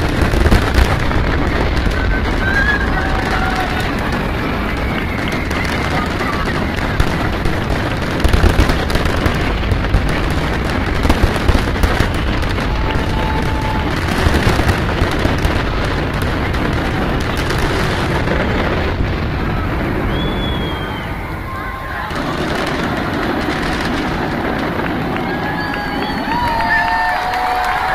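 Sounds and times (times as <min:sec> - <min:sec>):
fireworks booming and crackling: 0:00.0 - 0:27.9.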